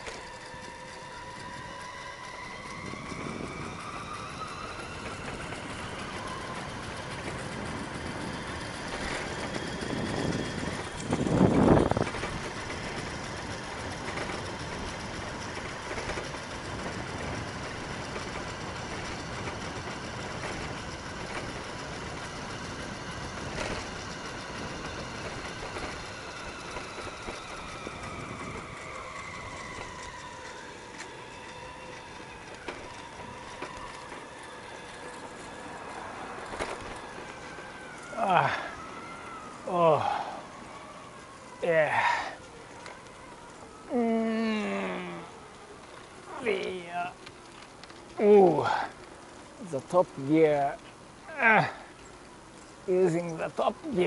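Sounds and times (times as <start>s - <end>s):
bicycle whine: 0.0s - 54.0s
road and wind noise: 0.0s - 54.0s.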